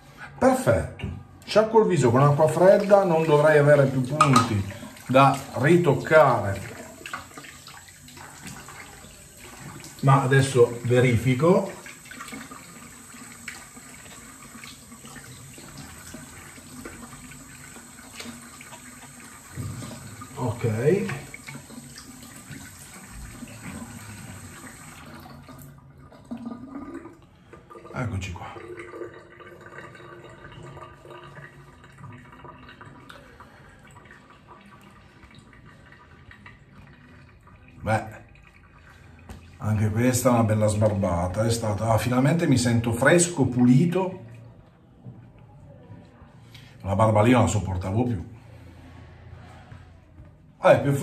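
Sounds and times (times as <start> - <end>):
tap water running into sink: 1.9 - 44.1.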